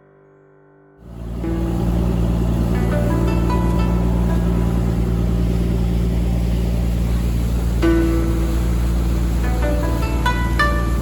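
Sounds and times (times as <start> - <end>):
boat engine humming: 1.0 - 11.0
short high musical notes: 1.1 - 11.0.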